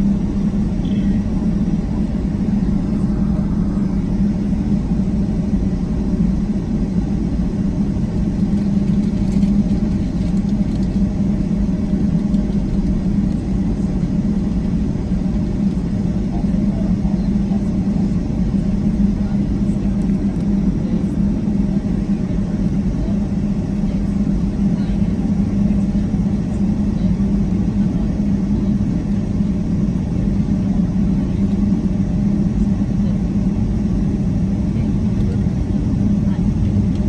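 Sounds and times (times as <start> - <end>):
constant low hum: 0.0 - 37.0
jet engines droning: 0.0 - 37.0.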